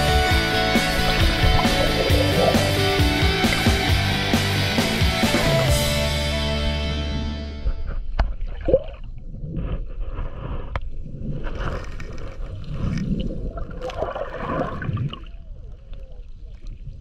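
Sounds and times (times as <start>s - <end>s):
water sloshing and gurgling: 0.0s - 5.0s, 6.6s - 17.0s.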